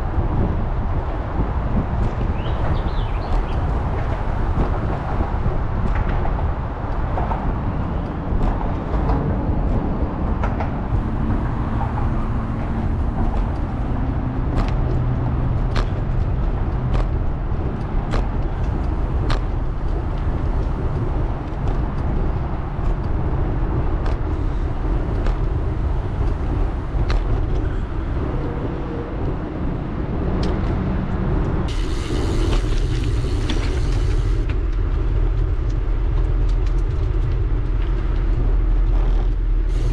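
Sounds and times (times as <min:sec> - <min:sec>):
bicycle tyres rolling: 0:00.0 - 0:39.9
wind on microphone: 0:00.0 - 0:39.9.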